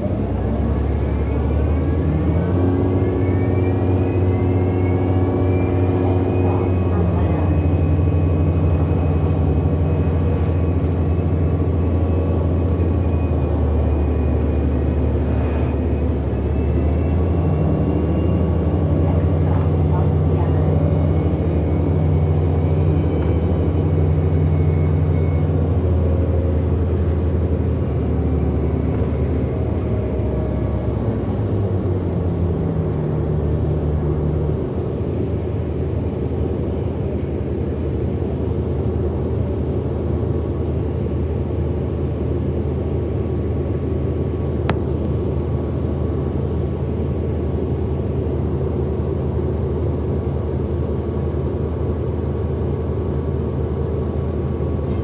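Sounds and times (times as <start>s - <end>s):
bus drivetrain drone: 0.0s - 55.0s.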